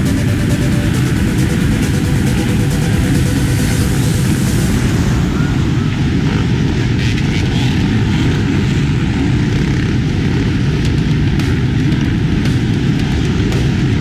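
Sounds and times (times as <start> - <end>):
many dirt bike engines revving: 0.0 - 14.0.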